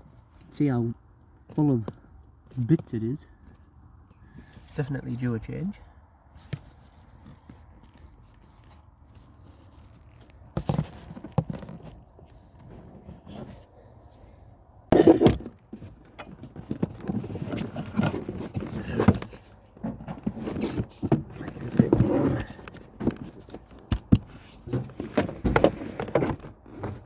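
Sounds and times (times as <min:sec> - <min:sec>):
filter rustling and scraping: 0:03.3 - 0:27.0.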